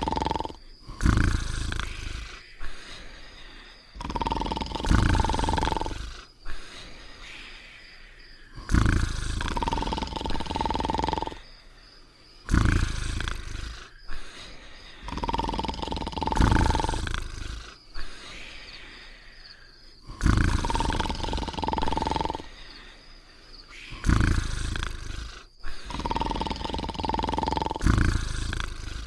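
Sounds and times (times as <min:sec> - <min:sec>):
cartoon dog snoring with whistle: 0:00.0 - 0:03.1, 0:03.9 - 0:07.3, 0:08.5 - 0:11.5, 0:12.4 - 0:18.6, 0:20.0 - 0:22.6, 0:23.7 - 0:29.0.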